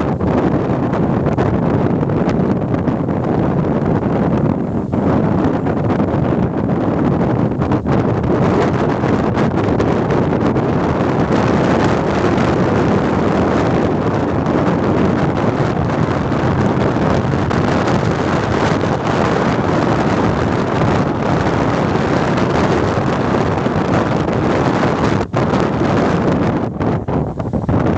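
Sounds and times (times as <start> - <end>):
wind on microphone: 0.0 - 27.9
ship rushing through water: 3.5 - 27.9.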